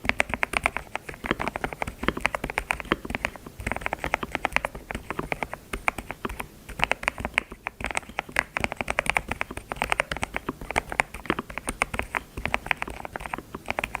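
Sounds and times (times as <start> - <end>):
computer keyboard typing: 0.0 - 14.0.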